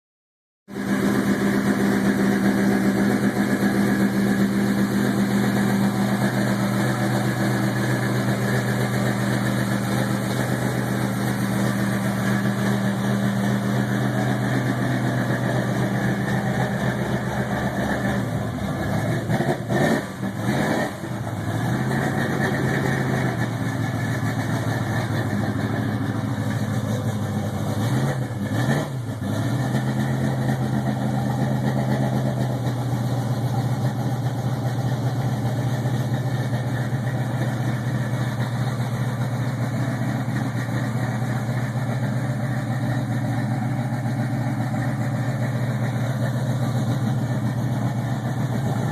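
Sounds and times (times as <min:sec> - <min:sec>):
car engine idling and revving: 0:00.7 - 0:48.9.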